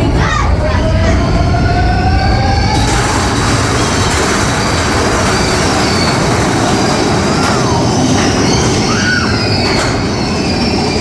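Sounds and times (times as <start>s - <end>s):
roller coaster rushing rumble: 0.0s - 11.0s
roller coaster whine: 0.0s - 11.0s.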